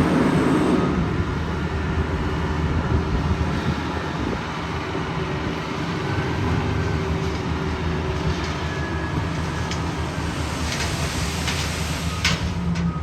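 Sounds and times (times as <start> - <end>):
diesel paving machine engine drone: 0.0 - 13.0.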